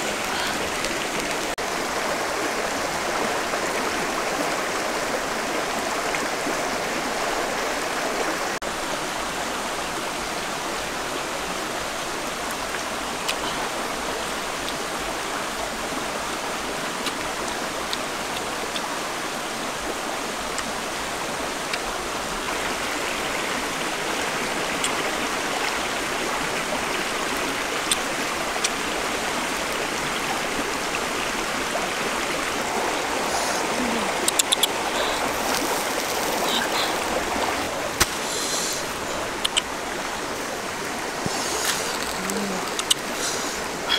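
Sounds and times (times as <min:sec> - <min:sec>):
stream rushing: 0:00.0 - 0:43.9.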